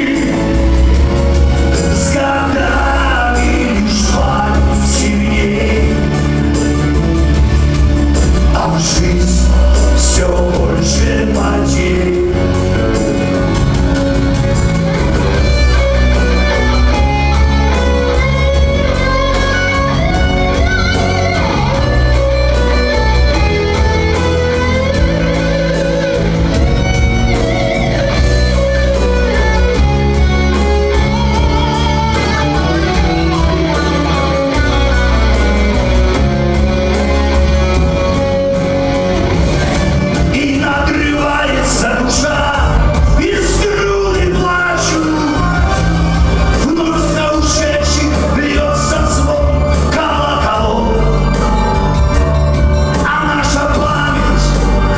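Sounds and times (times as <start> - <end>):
bass: 0.0 - 54.9
electric guitar lead lines: 0.0 - 54.9.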